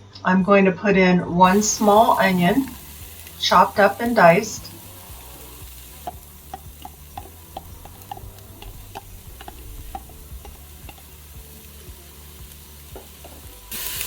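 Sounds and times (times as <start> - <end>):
faint sizzle: 1.4 - 14.0
utensil scraping metal pot: 1.4 - 14.0.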